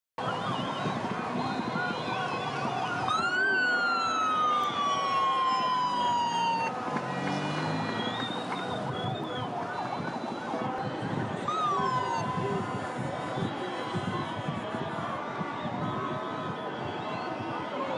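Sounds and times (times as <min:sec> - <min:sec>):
siren wailing: 0:00.2 - 0:17.9.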